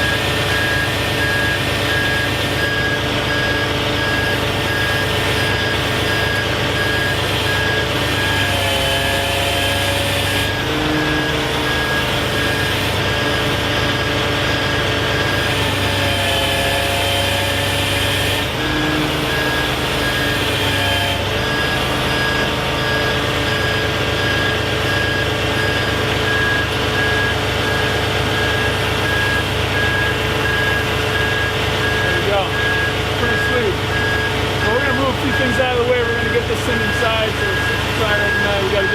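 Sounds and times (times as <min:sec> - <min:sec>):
diesel engine running: 0:00.0 - 0:38.9
truck backup alarm beeping: 0:00.0 - 0:38.9.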